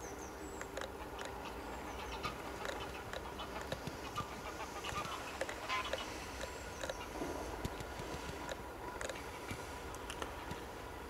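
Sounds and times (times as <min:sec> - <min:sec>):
waterbirds calling: 0:00.0 - 0:11.0.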